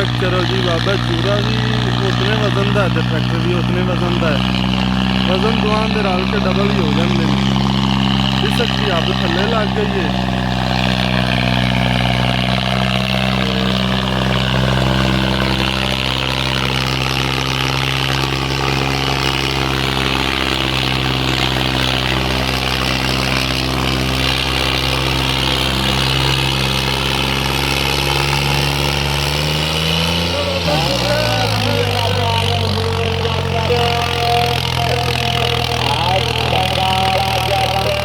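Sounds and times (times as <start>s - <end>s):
tractor diesel engine under load: 0.0s - 38.0s.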